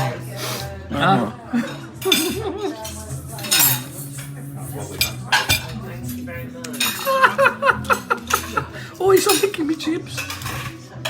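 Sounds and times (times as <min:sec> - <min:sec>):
cutlery and dishes clinking: 0:01.6 - 0:11.0.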